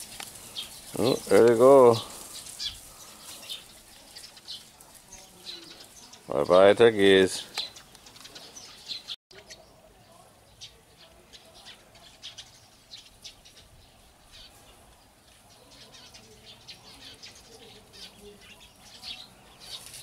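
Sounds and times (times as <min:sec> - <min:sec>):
birds chirping and peeping: 0:00.0 - 0:20.0.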